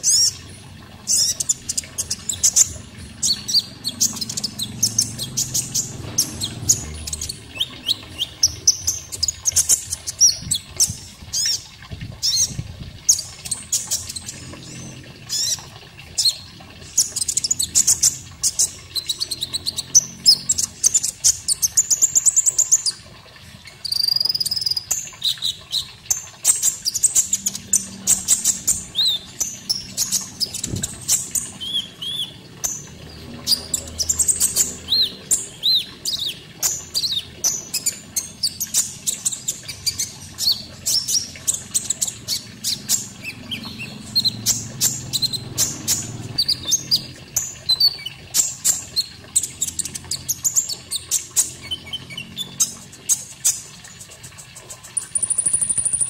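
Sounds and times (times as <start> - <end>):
water flowing: 0.0 - 56.0.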